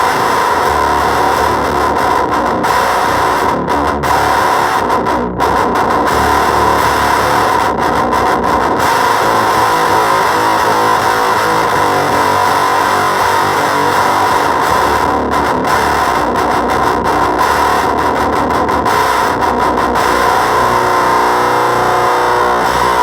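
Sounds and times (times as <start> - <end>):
fuzzed electric guitar: 0.0 - 23.0.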